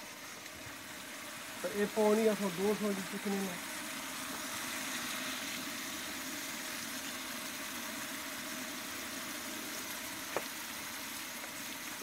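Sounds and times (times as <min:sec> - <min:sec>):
onions sizzling in a pot: 0:00.0 - 0:12.0.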